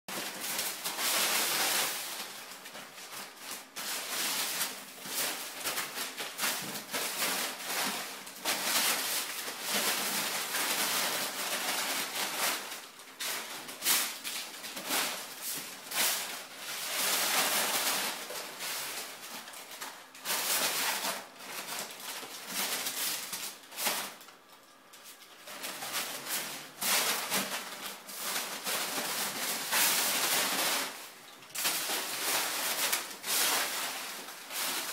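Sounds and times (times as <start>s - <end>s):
paper crinkling and rustling: 0.1s - 34.9s.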